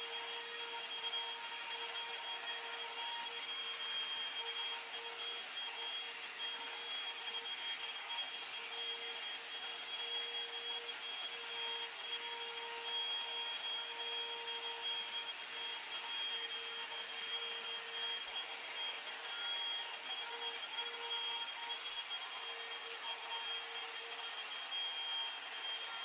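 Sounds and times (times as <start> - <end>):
hot air brush blowing: 0.0 - 26.0.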